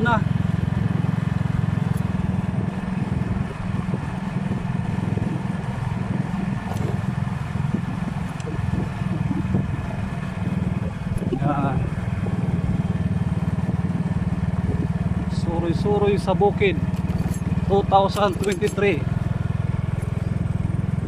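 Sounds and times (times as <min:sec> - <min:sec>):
motorcycle engine rumbling: 0:00.0 - 0:21.0.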